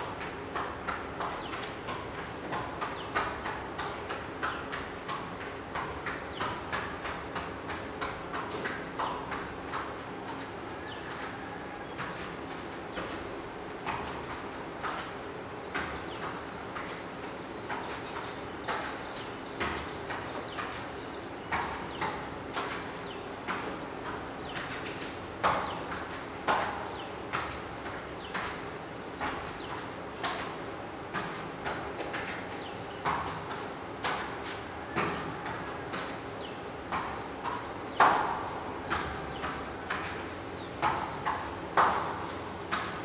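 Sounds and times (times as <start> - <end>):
bare feet thudding on foam mat: 0.0 - 43.0.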